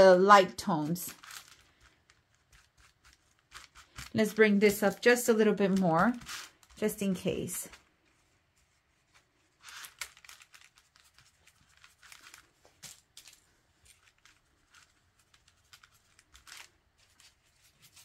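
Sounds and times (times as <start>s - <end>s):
paper rustling: 0.8s - 4.4s, 5.6s - 18.0s.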